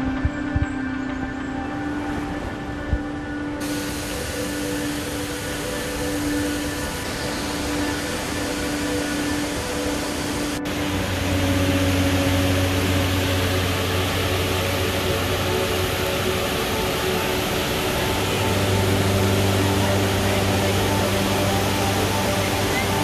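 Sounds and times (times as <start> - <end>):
low background music chords: 0.0 - 23.0
waterfall rushing: 0.0 - 23.0.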